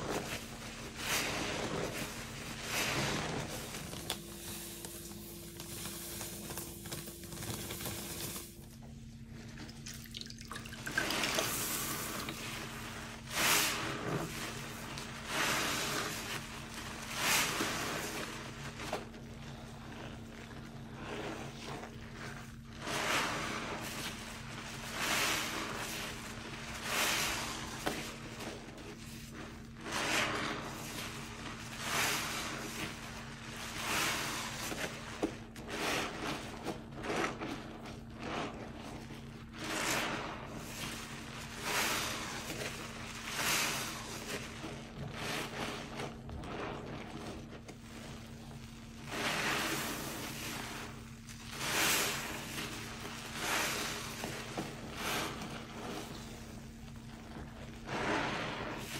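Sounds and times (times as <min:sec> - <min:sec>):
sponge squelching in soapy water: 0:00.0 - 0:58.9.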